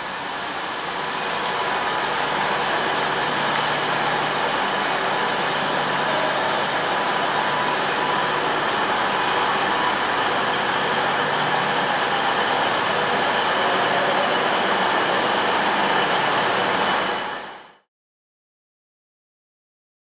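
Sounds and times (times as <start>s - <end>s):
hum and hiss of trains: 0.0s - 17.8s.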